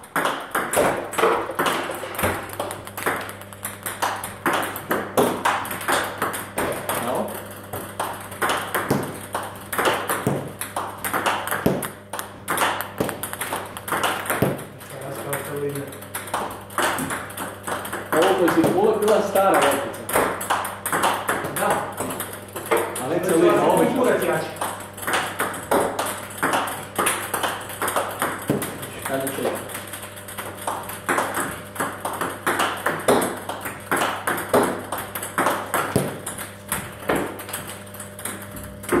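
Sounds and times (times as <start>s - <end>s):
ping pong ball clicking: 0.0s - 39.0s.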